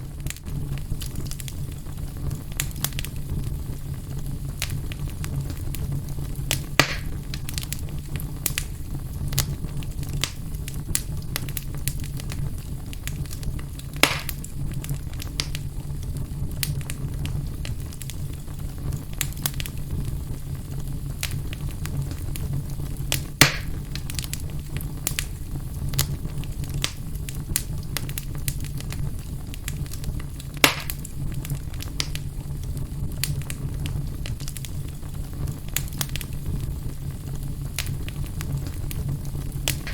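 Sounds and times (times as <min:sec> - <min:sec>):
fireplace fire crackling: 0:00.0 - 0:39.9
loud fire pops: 0:00.0 - 0:39.9.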